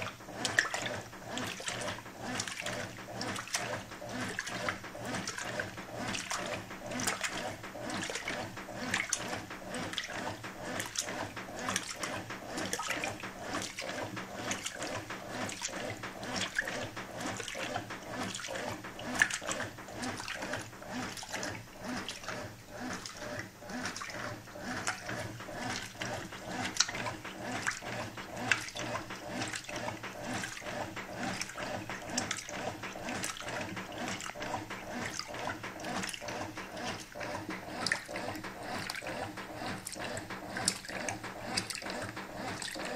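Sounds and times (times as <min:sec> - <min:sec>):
washing machine motor humming: 0:00.0 - 0:42.9
water and bedding sloshing: 0:00.0 - 0:42.9.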